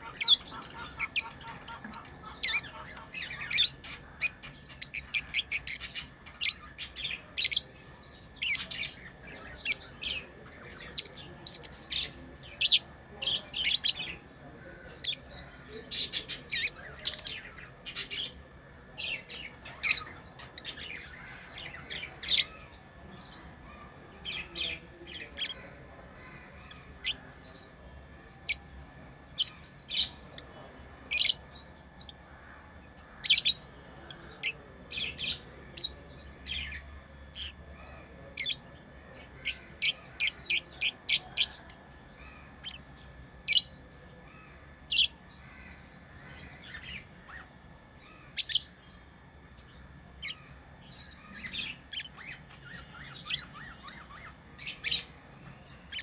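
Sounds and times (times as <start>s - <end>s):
lovebirds chirping: 0.0s - 27.7s, 28.3s - 56.0s.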